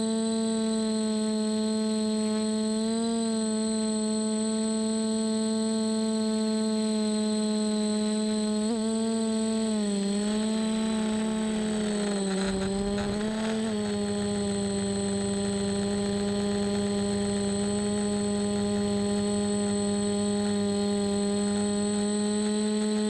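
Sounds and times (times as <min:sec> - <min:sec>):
quadcopter motors humming: 0:00.0 - 0:23.0.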